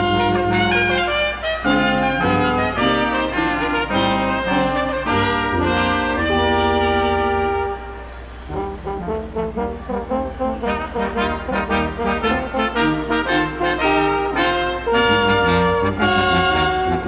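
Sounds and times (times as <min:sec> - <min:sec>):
brass ensemble playing: 0:00.0 - 0:17.0.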